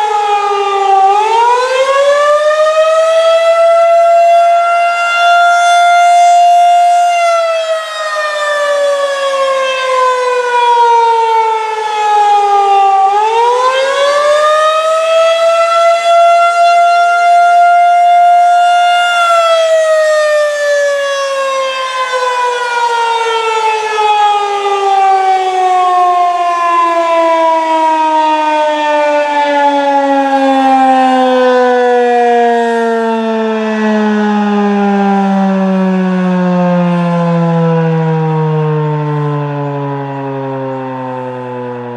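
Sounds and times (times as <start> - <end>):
outdoor warning siren: 0.0 - 41.9.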